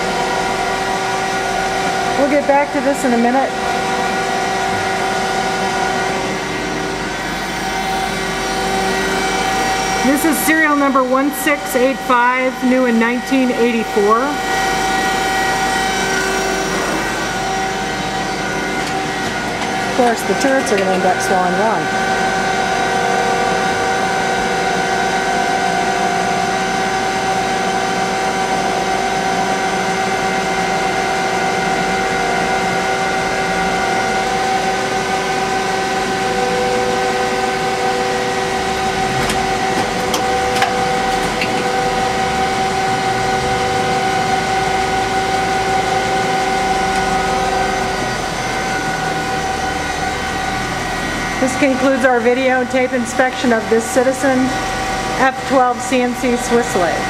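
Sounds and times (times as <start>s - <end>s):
lathe whining: 0.0s - 57.0s.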